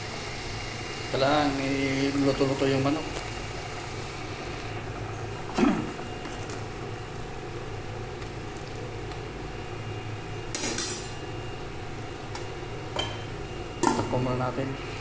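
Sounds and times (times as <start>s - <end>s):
low kitchen hum: 0.0s - 15.0s.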